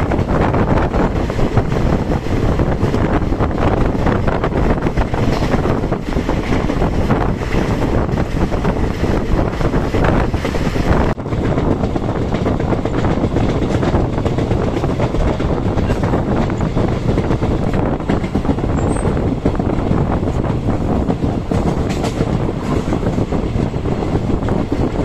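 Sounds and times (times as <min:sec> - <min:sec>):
train coach rumbling on rails: 0:00.0 - 0:25.0
wind buffeting microphone: 0:00.0 - 0:25.0.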